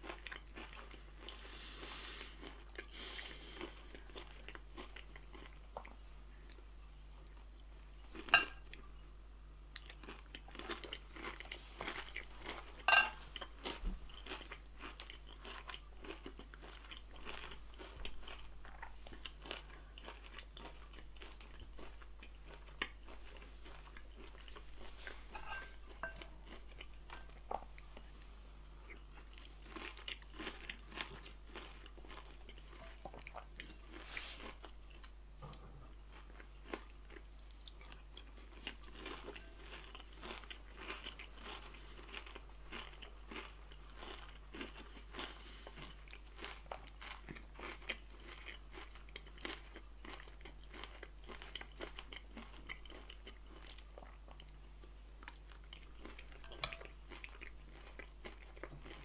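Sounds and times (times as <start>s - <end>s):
chewing and crunching food: 0.0s - 9.1s, 9.7s - 59.0s.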